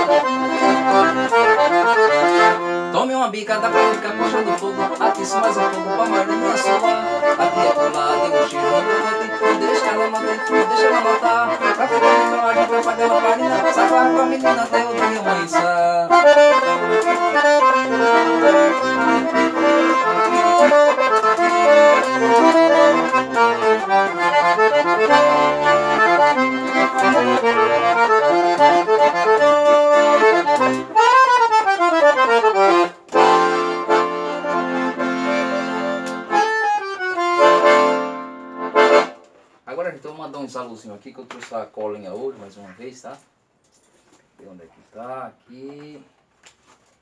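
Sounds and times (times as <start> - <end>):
accordion playing: 0.0 - 39.4.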